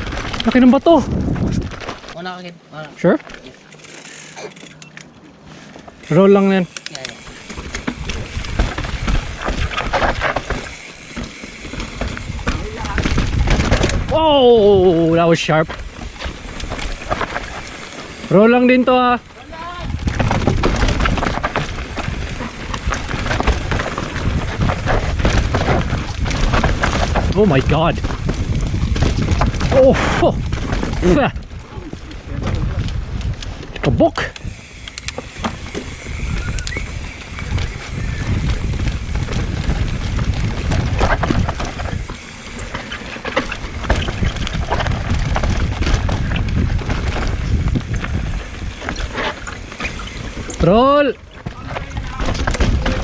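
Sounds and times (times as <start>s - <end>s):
wind on microphone: 0.0s - 1.9s, 7.5s - 10.7s, 11.7s - 17.7s, 19.5s - 53.0s
tyres crunching over stones: 0.0s - 33.8s, 34.4s - 53.0s
bike rattles and knocks: 0.0s - 53.0s.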